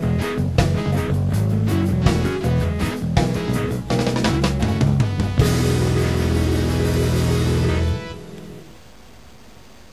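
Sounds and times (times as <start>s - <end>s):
band chord with ringing cymbals: 0.0s - 8.8s.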